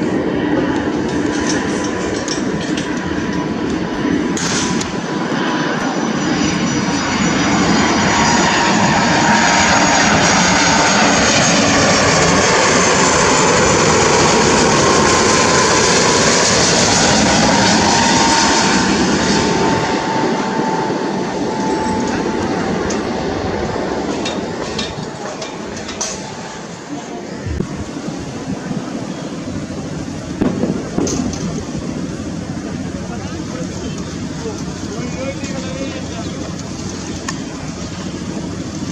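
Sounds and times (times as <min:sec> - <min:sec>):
jet airliner passing overhead: 0:00.0 - 0:38.9
jet engine whine falling in pitch: 0:00.0 - 0:38.9.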